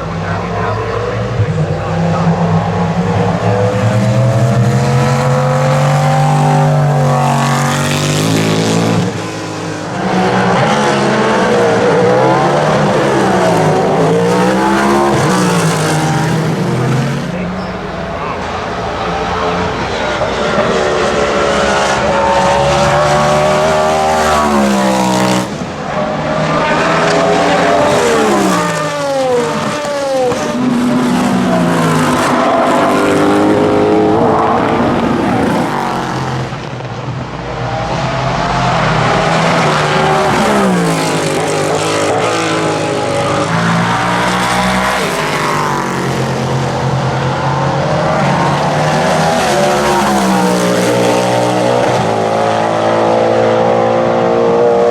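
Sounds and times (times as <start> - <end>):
race car engine at high revs: 0.0 - 54.9.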